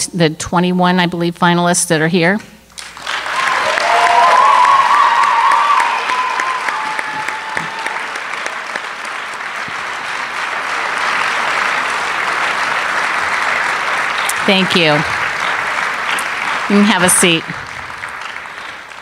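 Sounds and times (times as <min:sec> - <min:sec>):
audience applauding: 0:02.8 - 0:19.0
audience cheering: 0:02.9 - 0:19.0.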